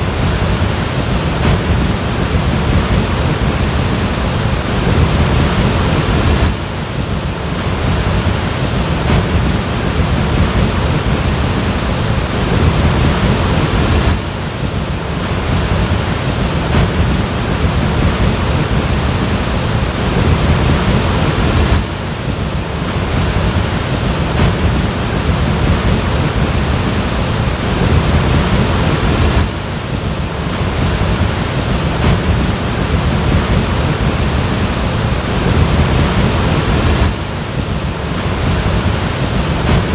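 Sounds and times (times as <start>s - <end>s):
floodwater rushing: 0.0s - 39.9s
wind on microphone: 0.0s - 39.9s.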